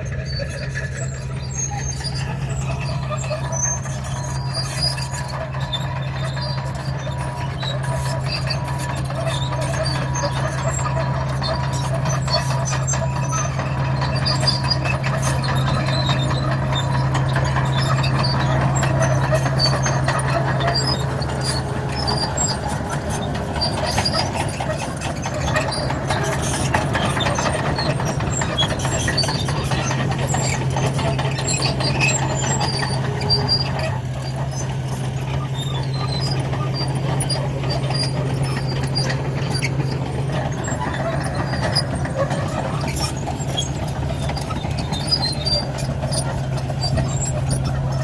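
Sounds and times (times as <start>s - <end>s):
bulldozer diesel engine running: 0.0s - 48.0s
steel tracks clattering and squeaking: 0.0s - 48.0s.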